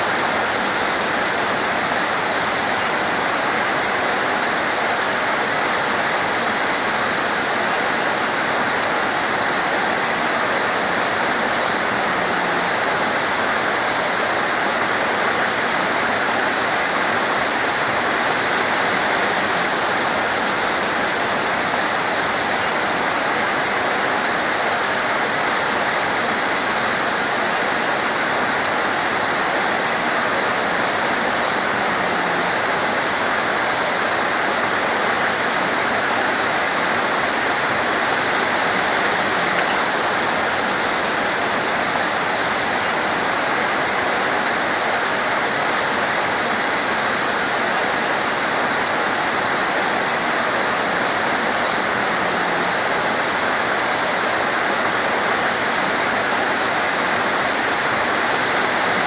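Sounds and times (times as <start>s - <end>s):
torrential rain hissing: 0.0s - 59.0s.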